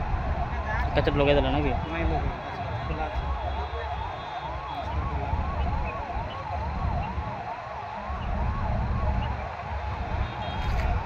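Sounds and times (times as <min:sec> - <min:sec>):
electronic siren yelping: 0:00.0 - 0:11.0.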